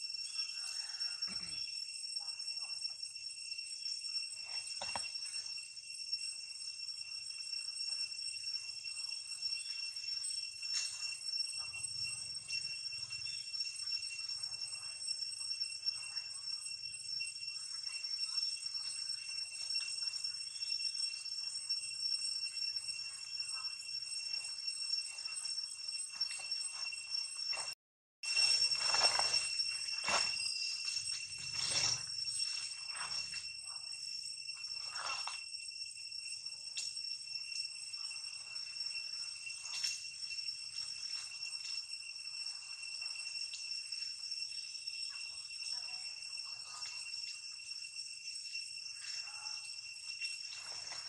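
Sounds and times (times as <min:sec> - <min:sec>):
high-pitched insect drone: 0:00.0 - 0:51.0.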